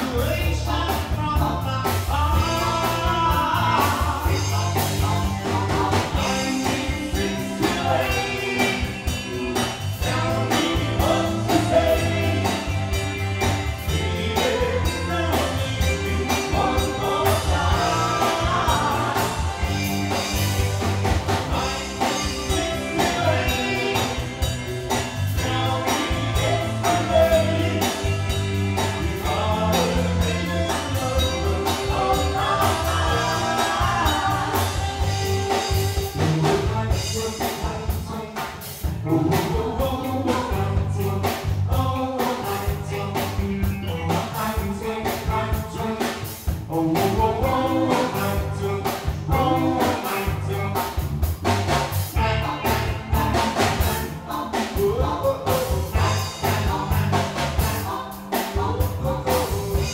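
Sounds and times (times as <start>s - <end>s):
singers singing: 0.0s - 51.0s, 52.0s - 59.9s
drums: 0.0s - 59.9s
electric guitar: 0.0s - 59.9s
keyboard: 0.0s - 59.9s.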